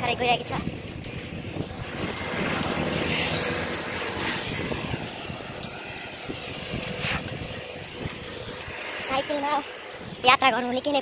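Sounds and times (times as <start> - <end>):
motor scooter passing: 0.0 - 10.5
steady rushing noise: 0.0 - 11.0.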